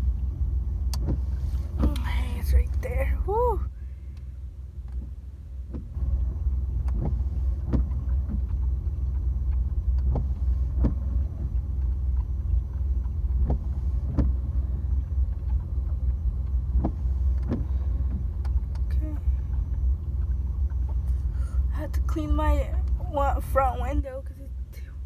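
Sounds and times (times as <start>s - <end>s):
windshield wipers sweeping: 0.0s - 3.3s, 4.8s - 24.0s
truck engine rumble: 0.0s - 25.0s.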